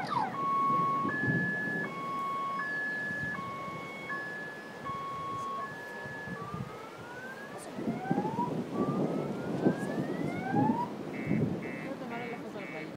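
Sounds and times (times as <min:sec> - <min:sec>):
electronic siren cycling tones: 0:00.0 - 0:11.9.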